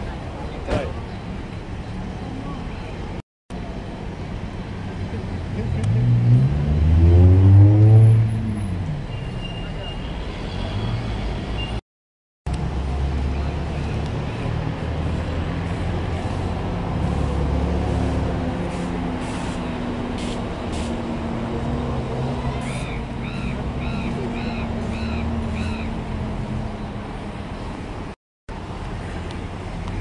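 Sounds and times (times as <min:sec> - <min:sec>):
road traffic rumble: 0:00.0 - 0:11.8, 0:12.5 - 0:30.0.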